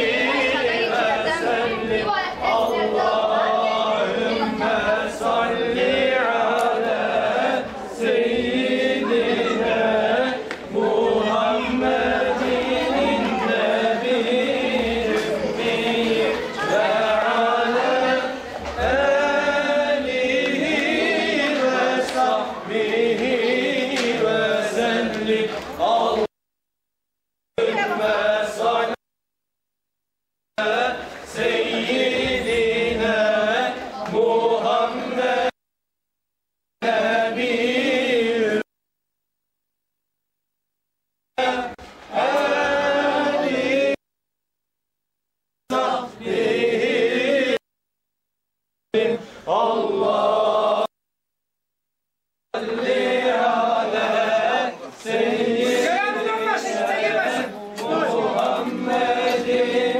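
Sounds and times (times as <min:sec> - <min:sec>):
devotional chanting: 0:00.0 - 0:26.3, 0:27.6 - 0:29.0, 0:30.6 - 0:35.6, 0:36.8 - 0:38.7, 0:41.4 - 0:44.0, 0:45.7 - 0:47.6, 0:48.9 - 0:50.9, 0:52.5 - 0:59.9.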